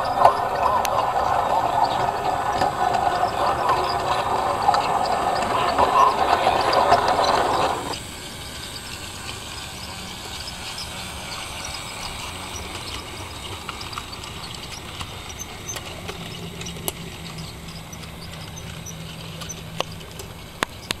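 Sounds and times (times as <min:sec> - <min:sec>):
model monorail motor hum: 0:00.0 - 0:21.0.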